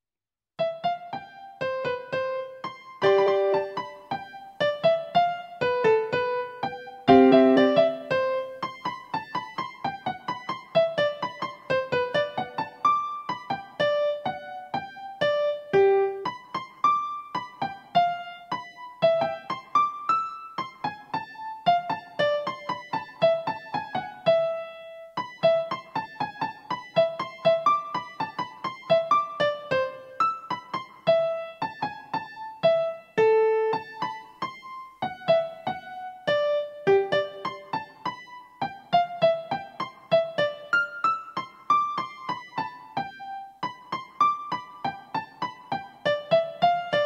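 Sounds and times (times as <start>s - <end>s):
solo piano music: 0.6s - 47.0s.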